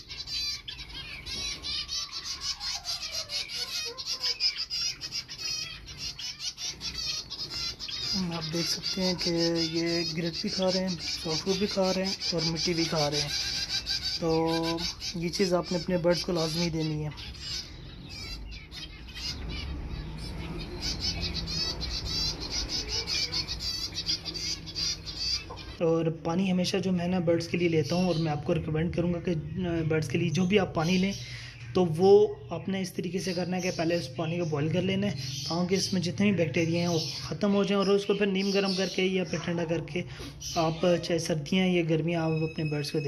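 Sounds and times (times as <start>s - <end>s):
finches chirping: 0.0s - 43.0s.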